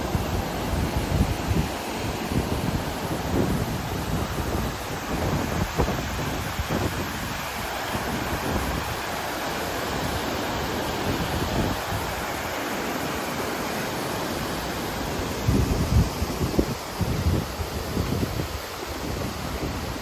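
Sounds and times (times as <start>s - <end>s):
wind buffeting microphone: 0.0s - 9.3s, 9.9s - 12.4s, 15.2s - 20.0s
river water rushing: 0.0s - 20.0s.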